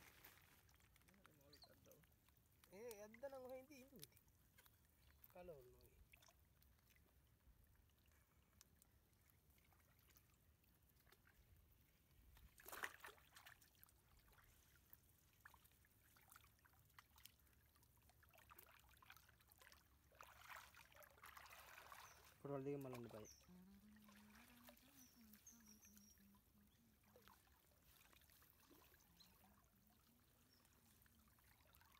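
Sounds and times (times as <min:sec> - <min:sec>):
shallow water sloshing: 0:00.0 - 0:31.9.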